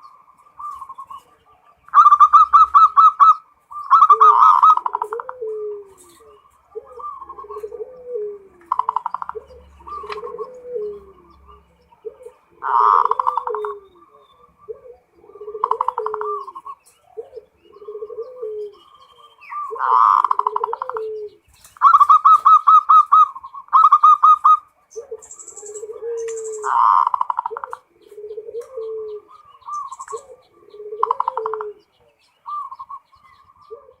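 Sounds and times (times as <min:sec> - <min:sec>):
doves cooing: 0:00.0 - 0:34.0.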